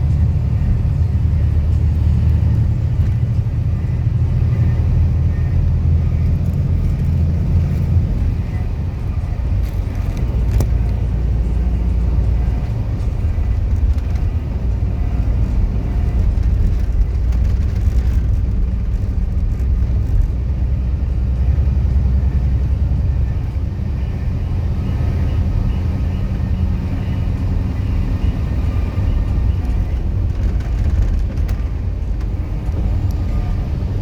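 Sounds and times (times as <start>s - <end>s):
train passing rumble: 0.0s - 34.0s.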